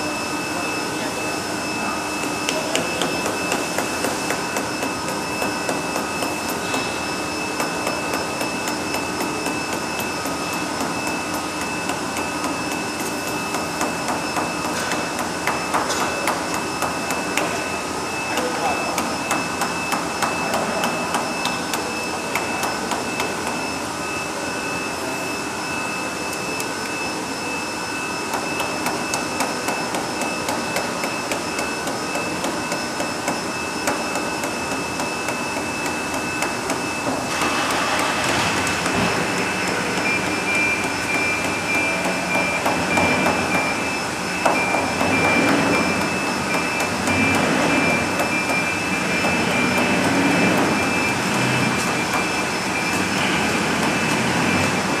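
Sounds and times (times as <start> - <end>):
machine hum with high whine: 0.0 - 55.0.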